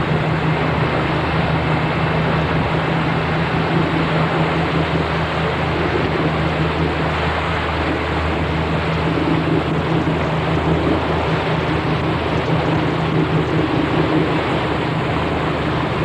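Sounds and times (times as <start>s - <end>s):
boat engine humming: 0.0s - 16.0s
wind and water noise: 0.0s - 16.0s.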